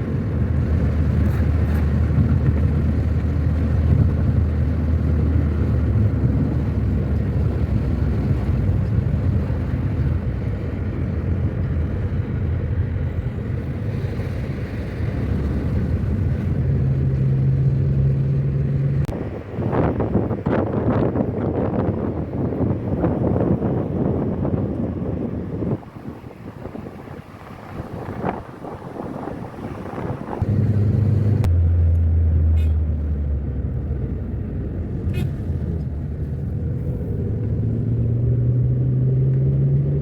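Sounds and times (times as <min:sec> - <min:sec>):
car engine hum: 0:00.0 - 0:40.0
road and tyre noise: 0:00.0 - 0:40.0.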